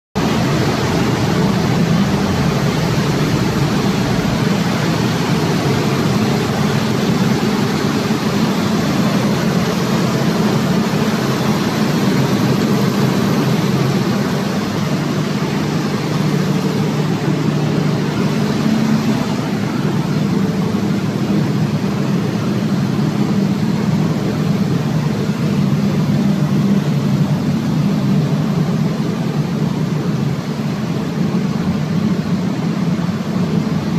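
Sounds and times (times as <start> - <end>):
diesel generator running: 0.2 - 33.9.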